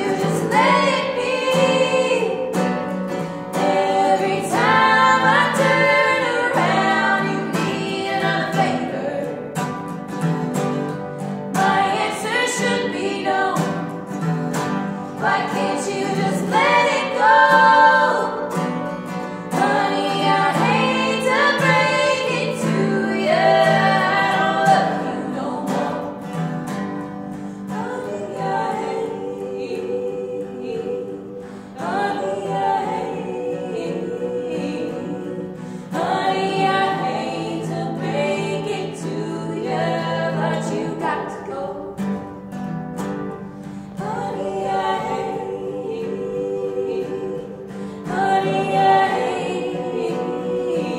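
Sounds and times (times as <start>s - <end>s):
strummed acoustic guitars: 0.0s - 50.9s
women singing folk song: 0.0s - 50.9s.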